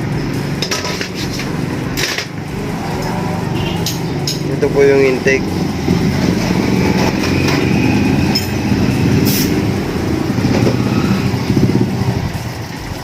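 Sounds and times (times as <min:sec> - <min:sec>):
engine running with low pulsing: 0:00.0 - 0:13.0.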